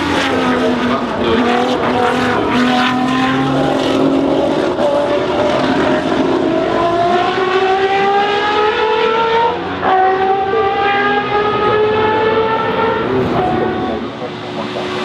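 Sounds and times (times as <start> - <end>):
racing car engine at full throttle: 0.0 - 15.0.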